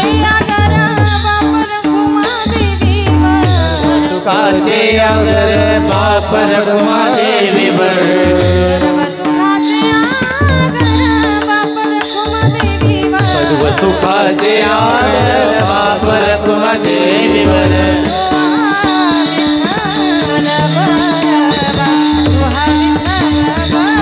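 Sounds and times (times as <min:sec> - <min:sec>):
person singing: 0:00.0 - 0:24.0.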